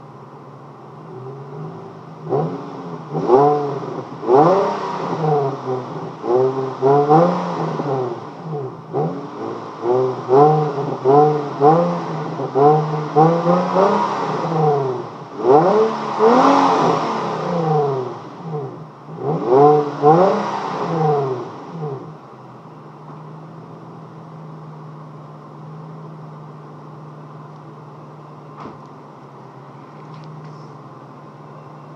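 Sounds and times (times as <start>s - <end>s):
car engine revving: 0.0s - 27.9s.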